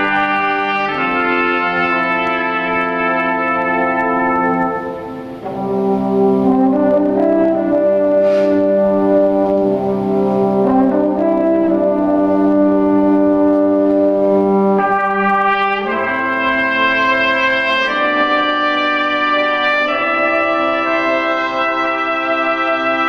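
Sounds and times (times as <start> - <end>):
brass ensemble playing chords: 0.0 - 23.0
high trumpet notes: 0.0 - 23.0.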